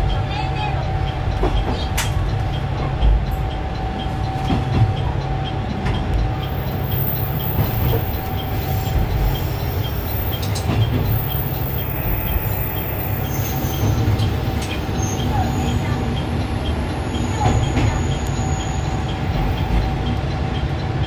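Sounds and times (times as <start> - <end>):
train running slowly: 0.0 - 21.0
wheels clicking over rail joints: 0.0 - 21.0.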